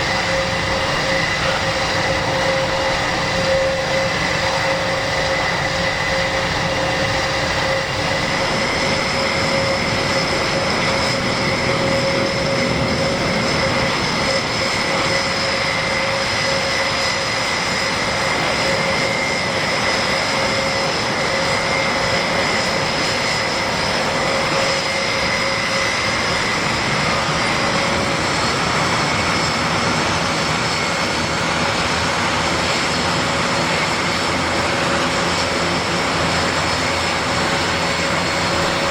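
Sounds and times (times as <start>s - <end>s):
turboprop engines running: 0.0s - 38.9s.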